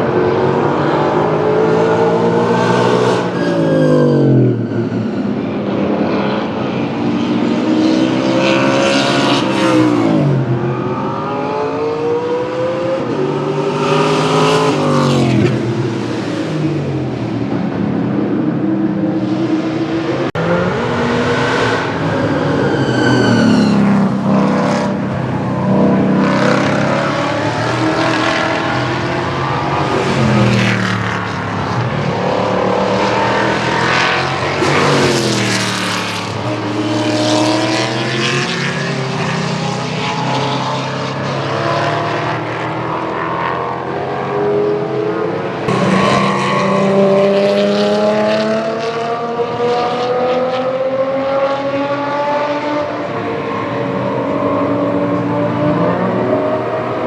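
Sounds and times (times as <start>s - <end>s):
racing cars passing: 0.0s - 57.0s.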